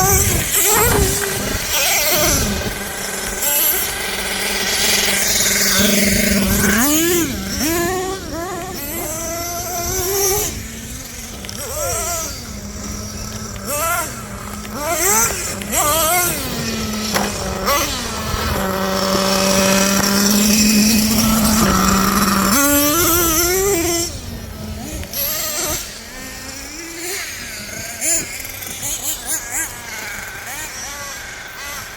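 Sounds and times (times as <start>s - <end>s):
small nitro engines revving: 0.0s - 31.9s.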